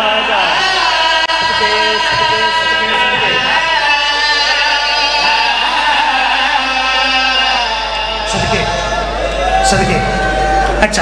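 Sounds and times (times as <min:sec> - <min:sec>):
men singing a lament into microphones: 0:00.0 - 0:10.6.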